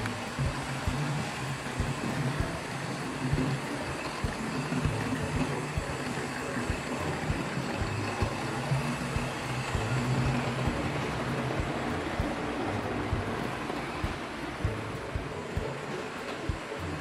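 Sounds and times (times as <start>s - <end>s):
electric motor and gear hum: 0.0s - 17.0s
model coaches rumbling: 0.0s - 17.0s
wheels clicking on rails: 0.0s - 17.0s.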